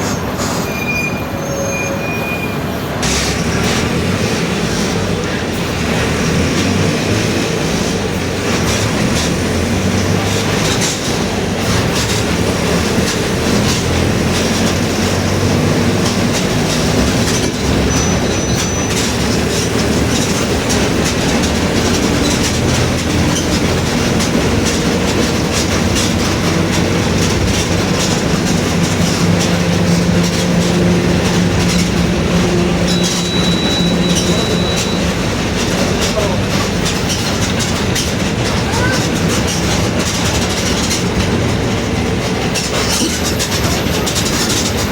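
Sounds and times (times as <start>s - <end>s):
bus diesel engine running: 0.0s - 44.9s
road and body rattle: 0.0s - 44.9s.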